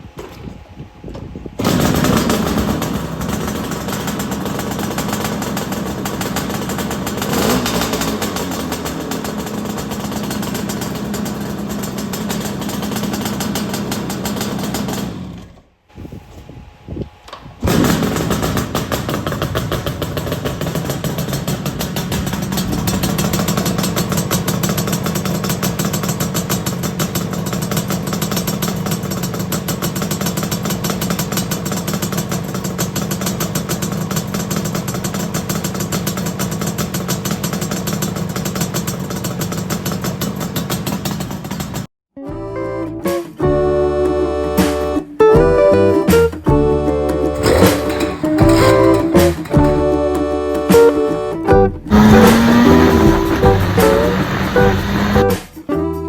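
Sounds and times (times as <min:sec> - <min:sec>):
motorcycle engine running: 0:01.6 - 0:15.6, 0:17.7 - 0:41.9, 0:46.5 - 0:55.6.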